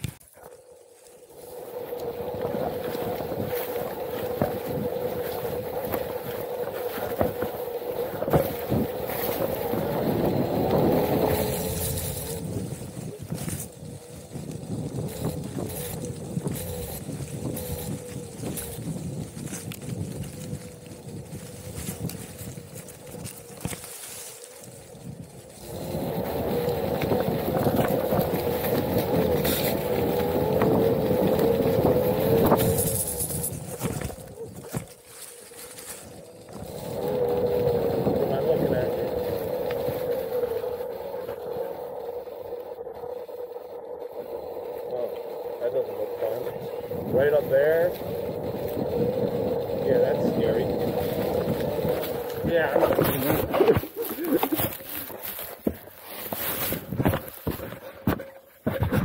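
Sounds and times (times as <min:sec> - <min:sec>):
electric motor whine: 0:00.0 - 0:59.0
tyre rolling on trail: 0:00.0 - 0:59.0
wind on microphone: 0:01.3 - 0:59.0.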